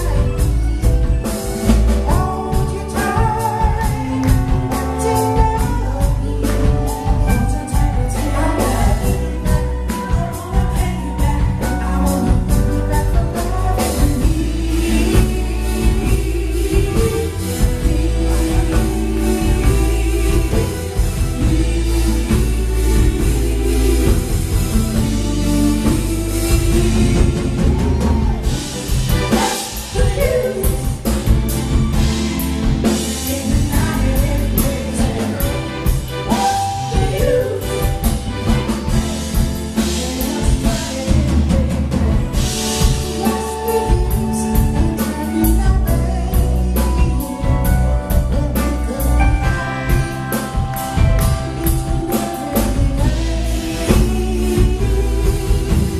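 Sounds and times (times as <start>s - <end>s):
drum kit: 0.0s - 55.9s
electric guitar: 0.0s - 55.9s
keyboard: 0.0s - 55.9s
person singing: 0.0s - 55.9s.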